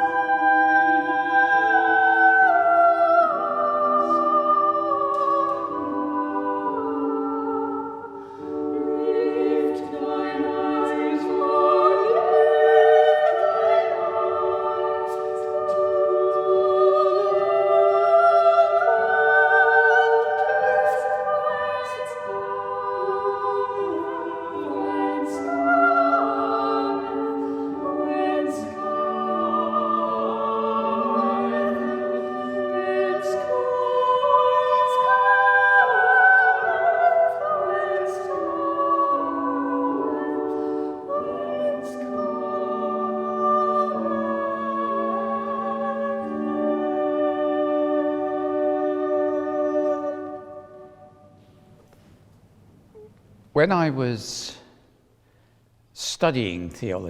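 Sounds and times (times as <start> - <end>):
choir singing: 0.0 - 51.7.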